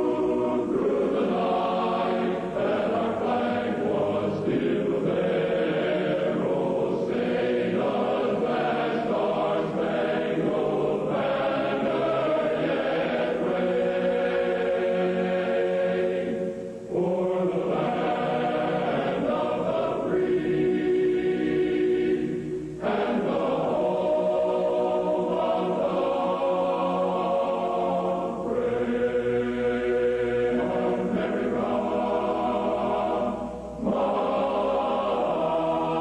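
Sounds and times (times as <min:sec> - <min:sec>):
choir singing an anthem: 0:00.0 - 0:36.0.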